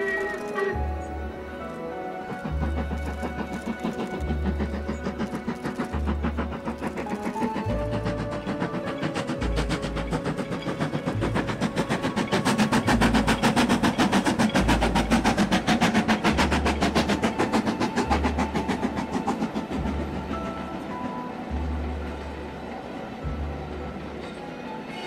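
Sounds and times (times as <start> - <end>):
steam locomotive exhaust chuffing: 0.0 - 24.9.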